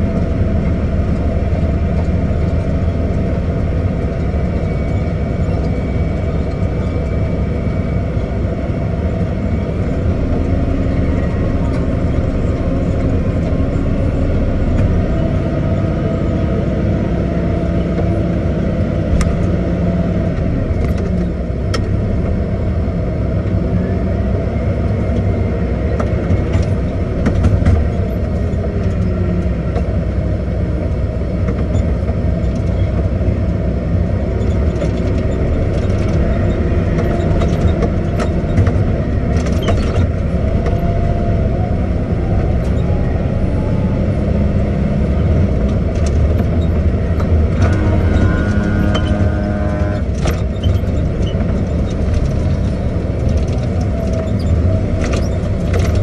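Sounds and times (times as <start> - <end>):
heavy machine engine droning: 0.0 - 56.0.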